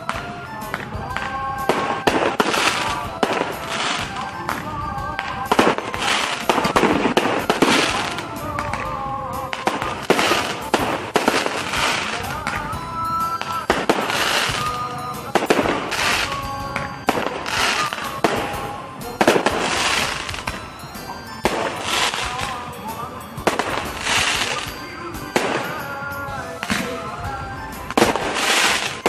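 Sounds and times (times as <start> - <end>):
firecrackers crackling: 0.0 - 29.0
loud firework blasts: 0.0 - 29.0.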